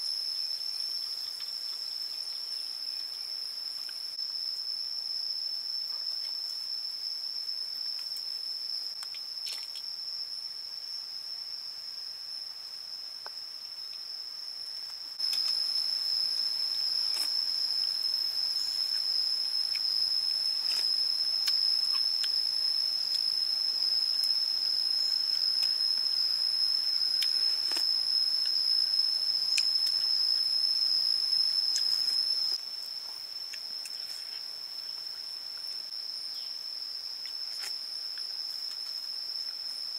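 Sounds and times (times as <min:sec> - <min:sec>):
insects singing high-pitched: 0:00.0 - 0:39.9.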